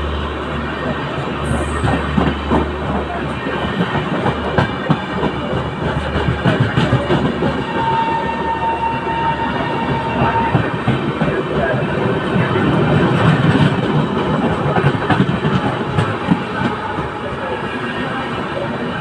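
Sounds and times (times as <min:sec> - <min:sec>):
train wheels clattering: 0:01.5 - 0:08.7, 0:09.5 - 0:17.5.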